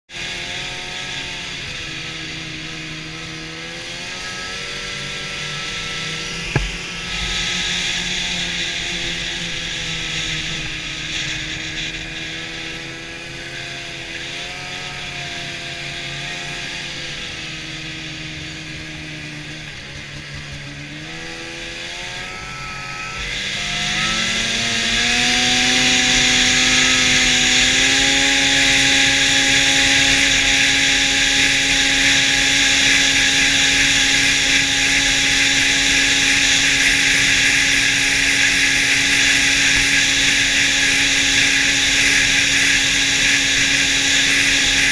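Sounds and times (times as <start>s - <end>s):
snowmobile engine revving: 0.1s - 44.9s.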